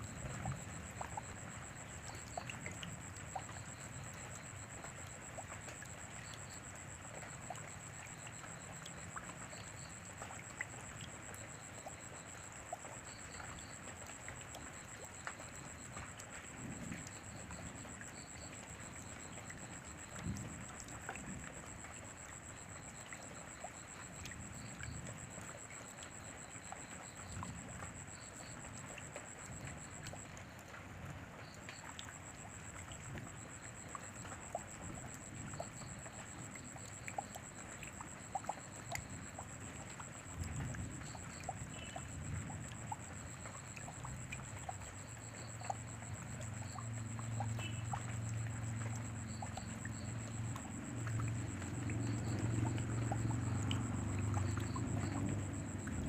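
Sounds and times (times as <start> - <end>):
drips ticking: 0.0 - 30.8, 31.4 - 56.0
steady rain: 0.0 - 56.0.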